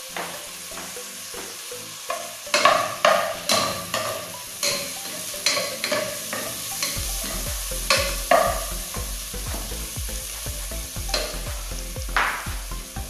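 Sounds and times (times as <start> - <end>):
food sizzling in oil: 0.0 - 12.5.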